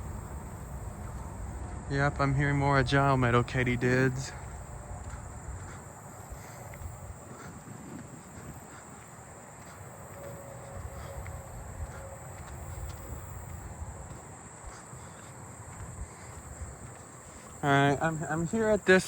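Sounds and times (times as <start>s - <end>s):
footsteps rumble: 0.0s - 19.0s
insect chorus: 0.0s - 19.0s.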